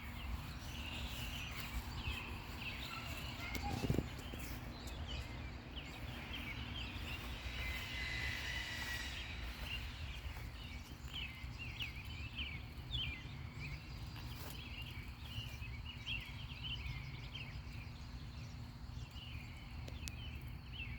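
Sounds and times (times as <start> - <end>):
steady low rumble: 0.0 - 19.6
cicadas chirping: 0.0 - 20.9.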